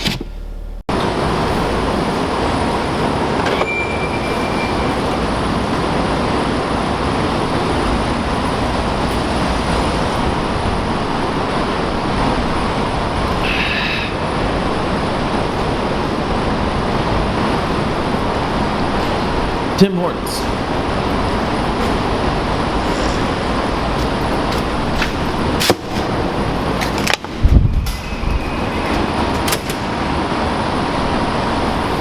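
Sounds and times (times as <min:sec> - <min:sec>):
car tyre and road noise: 0:00.0 - 0:19.8, 0:20.4 - 0:32.0.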